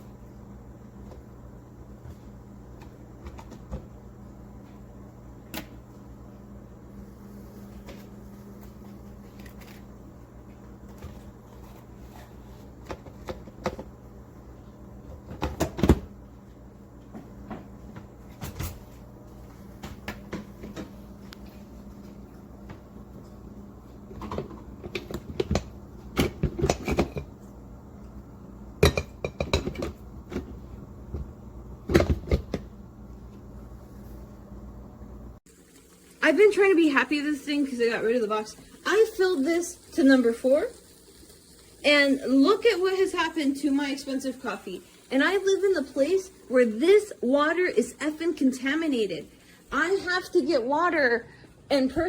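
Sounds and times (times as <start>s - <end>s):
steady low hum: 0.0s - 51.8s.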